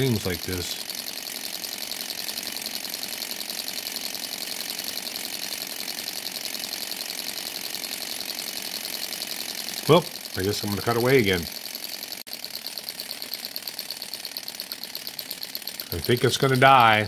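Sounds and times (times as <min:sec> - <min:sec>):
model engine clattering: 0:00.0 - 0:17.0.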